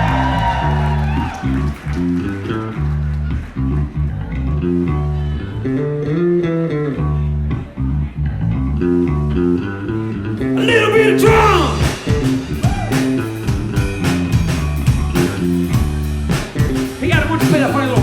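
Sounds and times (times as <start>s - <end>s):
electric bass guitar funk line: 0.0s - 18.0s.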